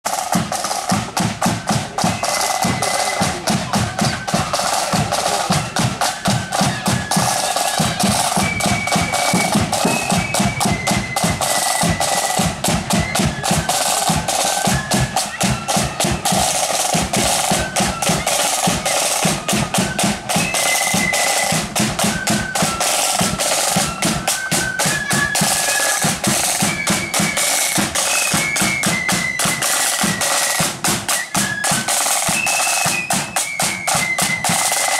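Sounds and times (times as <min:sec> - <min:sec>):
flute melody: 0:00.1 - 0:34.9
side drum strokes: 0:00.1 - 0:34.9.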